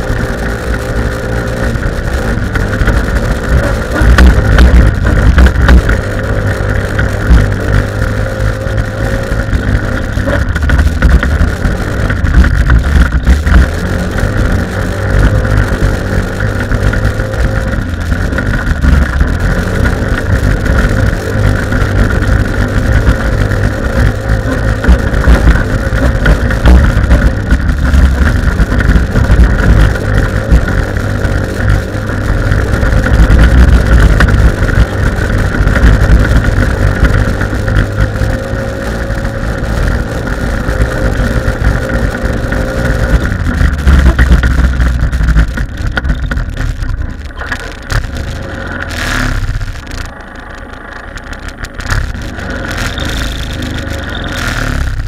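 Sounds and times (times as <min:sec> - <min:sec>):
buggy engine running hard: 0:00.0 - 0:55.0.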